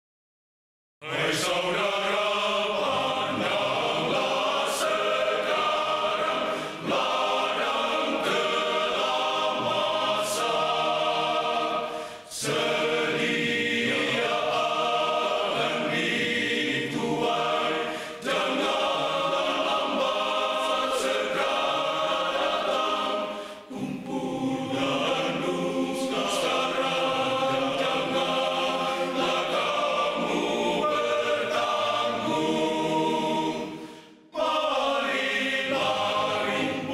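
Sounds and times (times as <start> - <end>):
male choir singing: 1.0 - 36.9.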